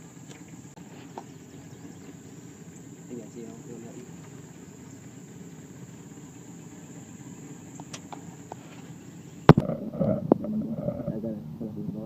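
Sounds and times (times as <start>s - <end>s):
insects droning: 0.0s - 12.0s
low rumble: 0.6s - 12.0s.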